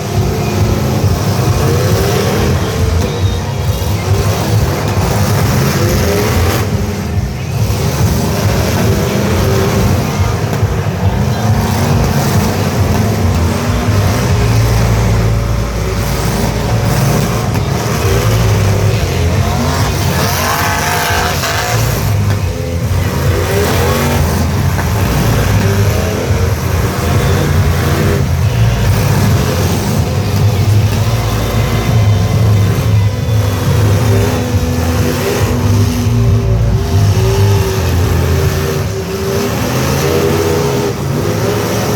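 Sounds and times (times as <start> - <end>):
truck engines revving: 0.0 - 41.9.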